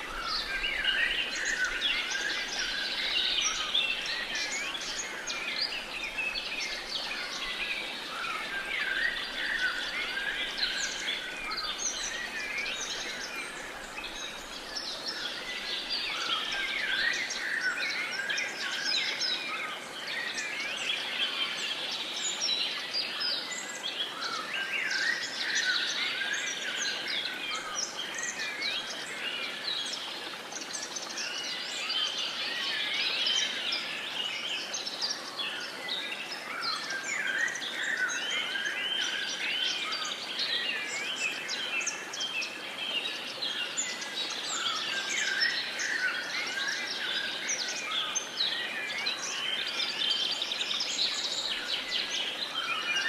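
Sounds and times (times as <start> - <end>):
birds singing and chirping: 0.0 - 53.0.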